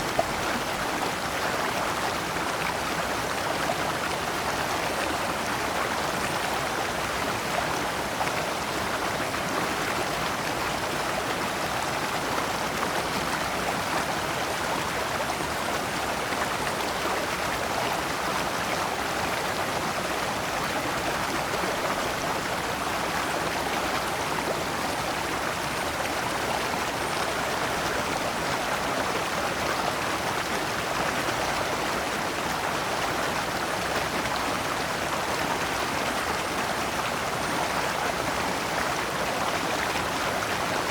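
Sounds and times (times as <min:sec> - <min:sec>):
stream flowing over stones: 0:00.0 - 0:40.9.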